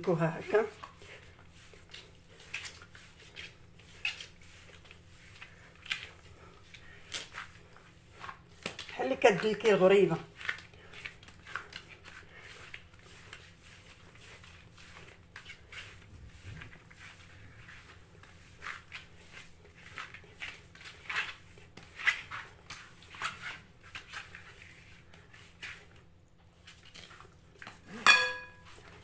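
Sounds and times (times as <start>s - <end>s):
hands kneading dough in a bowl: 0.0s - 29.0s.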